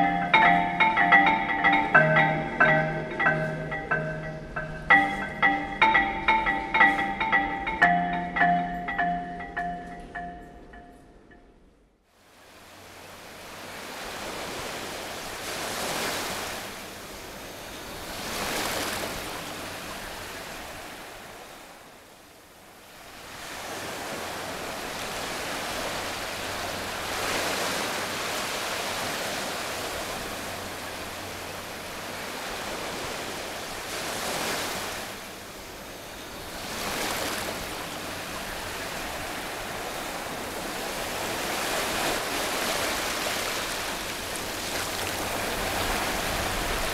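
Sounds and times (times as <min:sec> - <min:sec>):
surf-like rushing noise: 0:00.0 - 0:10.4, 0:12.3 - 0:46.9.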